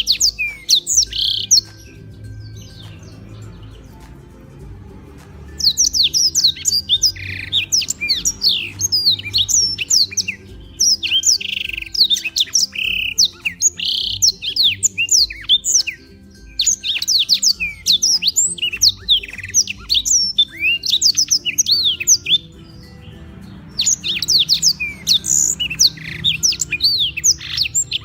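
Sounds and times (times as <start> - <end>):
canary singing chirps and trills: 0.0 - 28.0.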